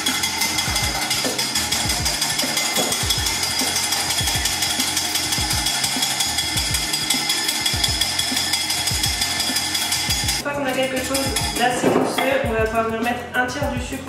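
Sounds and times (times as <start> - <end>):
whisk clattering in glass bowl: 0.0 - 10.4, 11.0 - 12.3.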